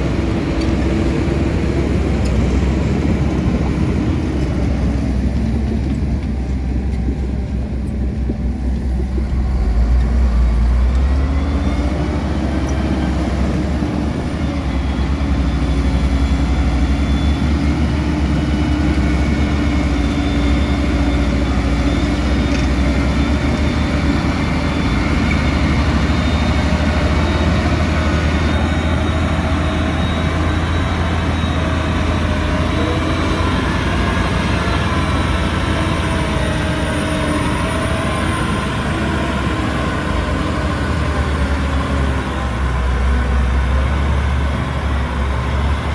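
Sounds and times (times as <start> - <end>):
heavy diesel engine rumbling: 0.0 - 45.9.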